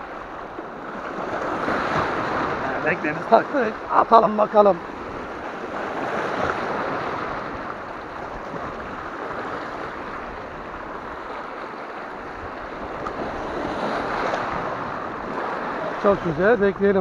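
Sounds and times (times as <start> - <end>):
waves splashing over rocks: 0.0 - 17.0.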